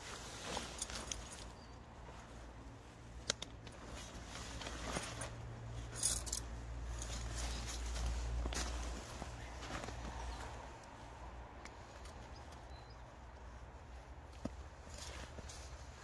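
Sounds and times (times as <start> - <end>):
nylon fabric rustling: 0.0 - 12.0, 13.1 - 16.0.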